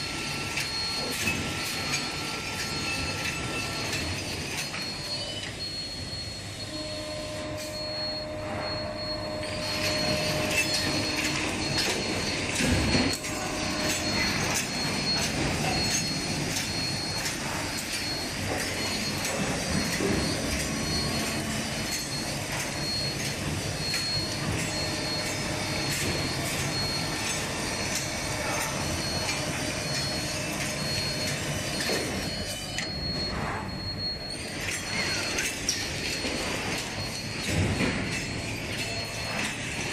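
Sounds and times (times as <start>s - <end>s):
packing machine clatter: 0.0s - 6.3s, 7.7s - 39.9s.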